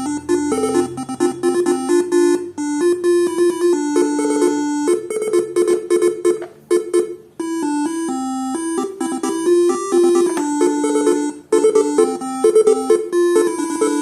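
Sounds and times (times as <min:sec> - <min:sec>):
buzzy electronic horn melody: 0:00.0 - 0:14.0.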